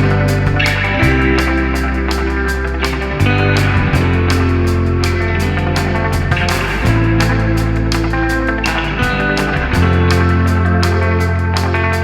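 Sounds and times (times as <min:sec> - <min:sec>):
background music with guitar: 0:00.0 - 0:12.0.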